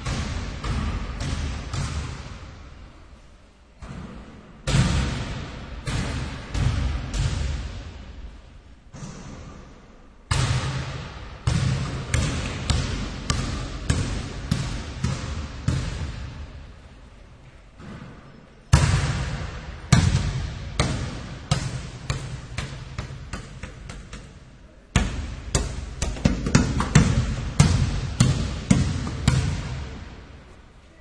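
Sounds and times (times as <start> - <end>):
basketball bouncing: 0.0 - 2.6, 3.8 - 8.0, 10.3 - 16.5, 17.8 - 30.2.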